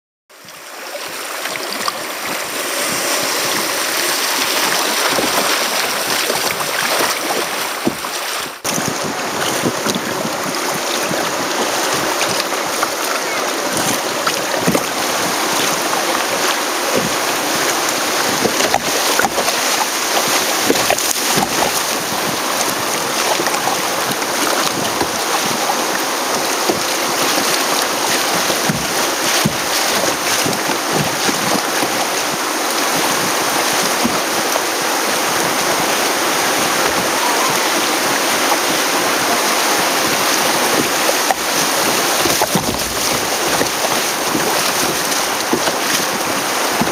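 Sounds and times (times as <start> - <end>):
water splashing against kayak: 0.3 - 46.9
river whitewater rushing: 0.4 - 46.9
wind buffeting microphone: 1.6 - 46.9.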